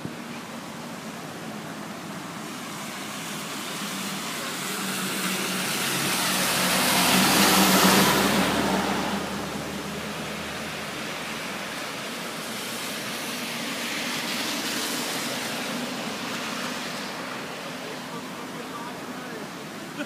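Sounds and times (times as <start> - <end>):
car passing: 0.6 - 20.0.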